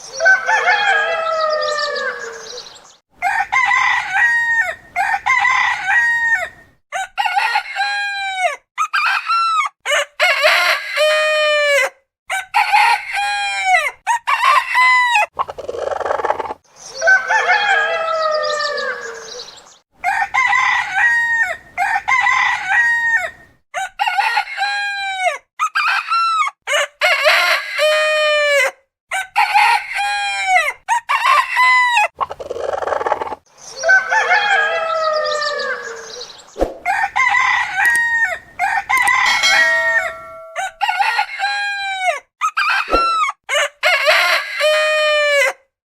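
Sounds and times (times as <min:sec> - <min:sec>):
rooster crowing: 0:00.1 - 0:15.3, 0:17.0 - 0:32.1, 0:33.8 - 0:45.6.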